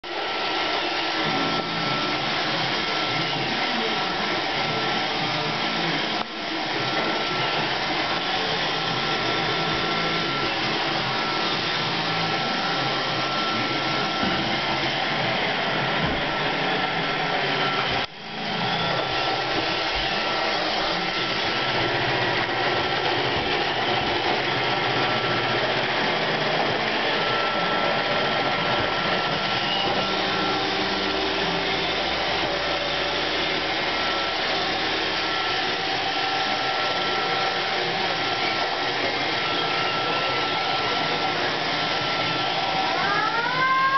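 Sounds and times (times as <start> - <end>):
robot vacuum running: 0.1 - 43.9.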